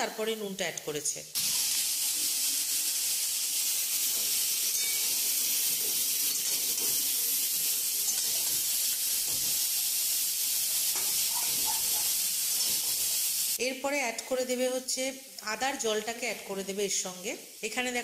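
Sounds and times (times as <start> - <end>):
vegetables sizzling in oil: 1.1 - 18.0.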